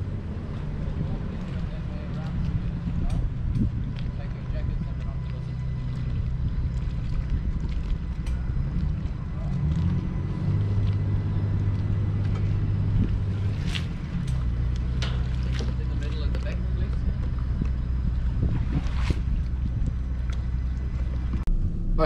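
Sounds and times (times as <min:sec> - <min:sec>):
boat engine running at low speed: 0:00.0 - 0:22.0.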